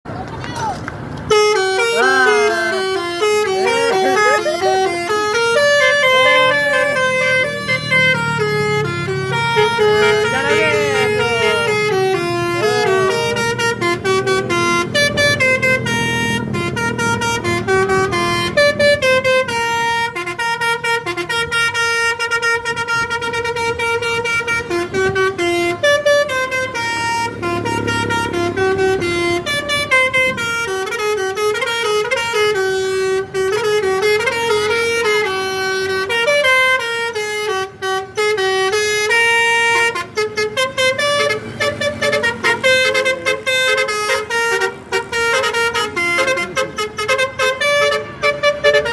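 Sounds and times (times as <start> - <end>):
low vehicle rumble: 0.1 - 48.9
musical air horn melody: 1.3 - 48.9.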